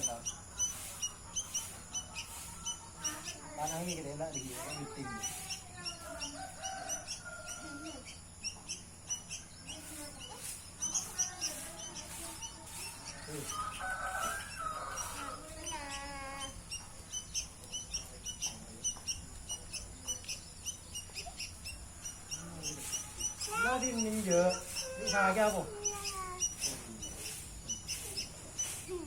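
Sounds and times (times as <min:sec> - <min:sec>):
bird chicks peeping: 0:00.0 - 0:29.0.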